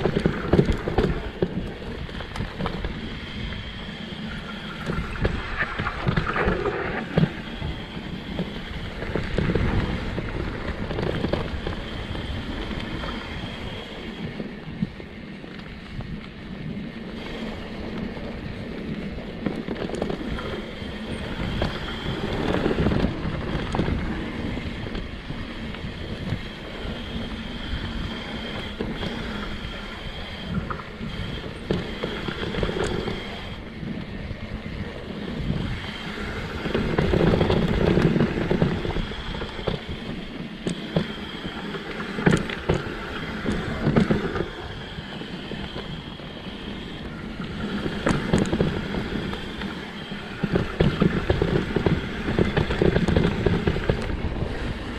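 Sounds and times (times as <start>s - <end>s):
bike rattling over bumps: 0.0s - 54.9s
bike tyres rolling over dirt: 0.0s - 54.9s
wind on microphone: 0.0s - 54.9s.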